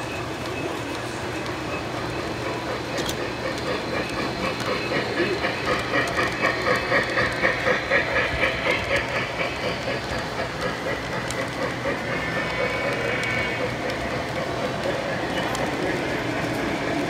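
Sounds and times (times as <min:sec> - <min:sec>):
model steam locomotive running past: 0:00.0 - 0:17.0.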